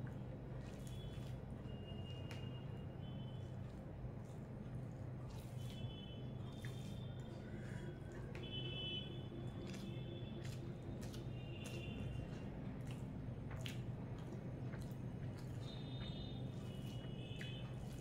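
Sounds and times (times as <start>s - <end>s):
fingers squishing food: 0.0s - 18.0s
person chewing: 0.0s - 18.0s.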